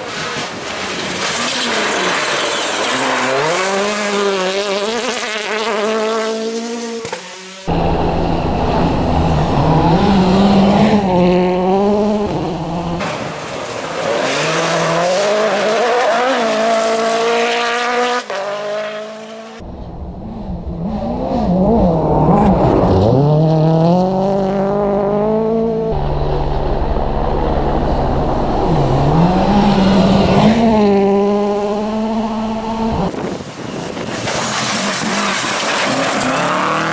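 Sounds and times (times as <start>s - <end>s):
rally car engines revving: 0.0s - 36.9s.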